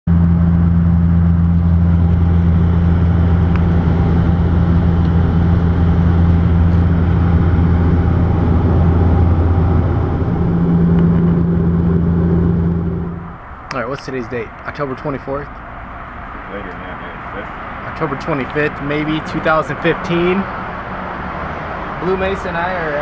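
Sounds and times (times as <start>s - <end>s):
car engine low drone: 0.0s - 23.0s.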